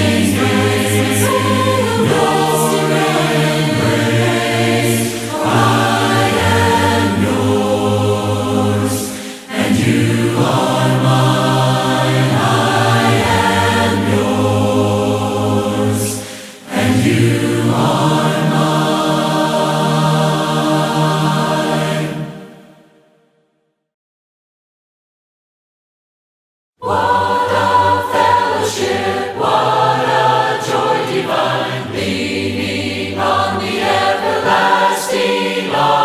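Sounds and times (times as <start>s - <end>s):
choir singing a hymn: 0.0s - 22.9s, 26.8s - 36.0s.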